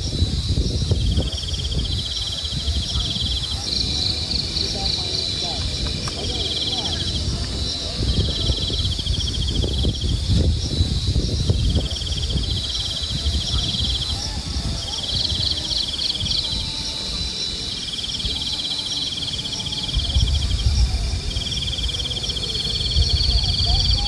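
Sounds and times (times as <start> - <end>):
crickets chirping: 0.0 - 24.0
wind rumble on microphone: 0.0 - 24.0.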